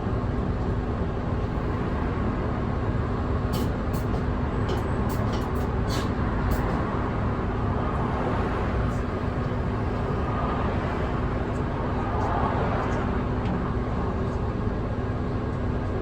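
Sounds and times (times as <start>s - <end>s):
diesel engine hum: 0.0s - 16.0s
road noise: 0.0s - 16.0s.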